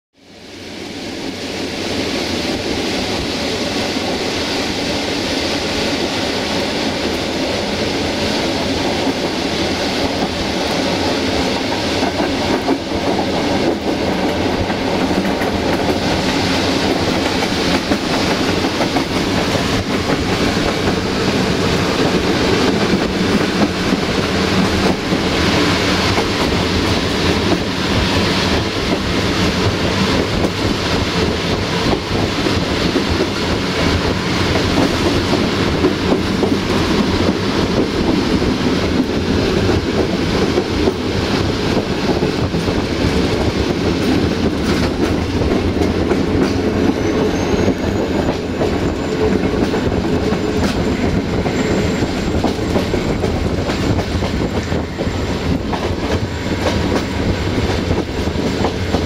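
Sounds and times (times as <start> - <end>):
train wheels rumbling on rail: 0.2 - 59.0
clickety-clack over rail joints: 5.6 - 59.0.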